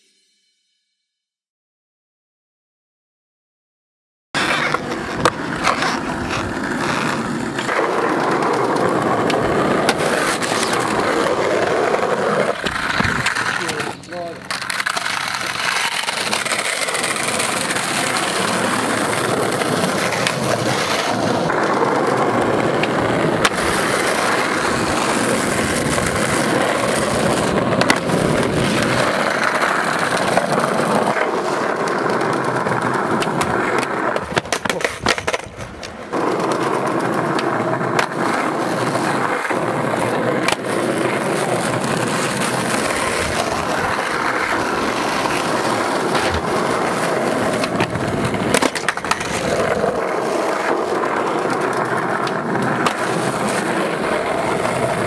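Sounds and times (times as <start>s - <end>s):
skateboard clacks: 4.4s - 55.0s
skateboard wheels rolling on tarmac: 4.4s - 55.0s.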